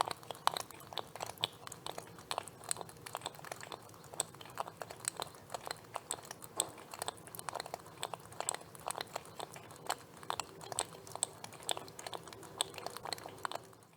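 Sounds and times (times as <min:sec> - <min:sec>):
lobster clicking and crackling: 0:00.0 - 0:13.9.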